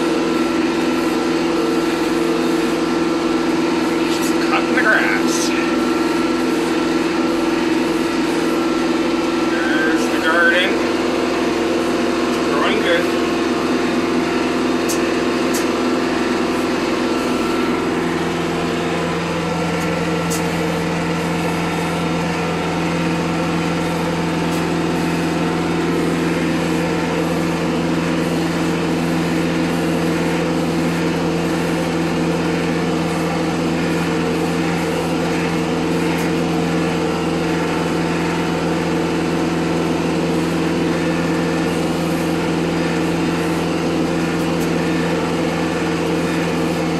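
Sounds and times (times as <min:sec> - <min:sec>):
rotary cutter mowing grass: 0:00.0 - 0:46.9
tractor diesel engine running: 0:00.0 - 0:46.9.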